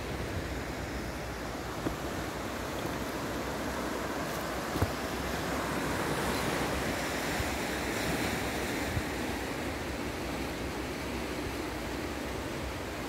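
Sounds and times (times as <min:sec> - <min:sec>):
waves washing over stony shore: 0:00.0 - 0:13.0.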